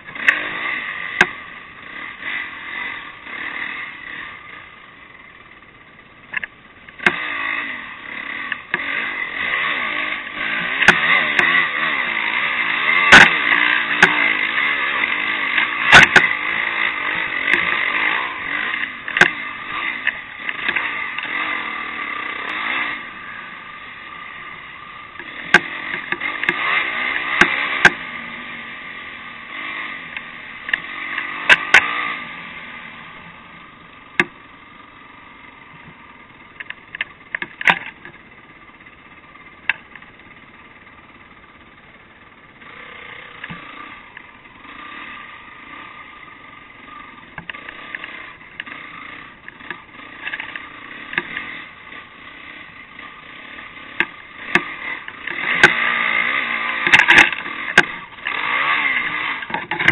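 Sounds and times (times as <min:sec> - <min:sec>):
off-road motorcycle engine: 0:00.0 - 0:59.9
knocks and clatter over bumps: 0:05.4 - 0:07.4, 0:08.1 - 0:23.1, 0:24.0 - 0:28.4, 0:29.4 - 0:32.3, 0:34.1 - 0:34.8, 0:35.5 - 0:59.9.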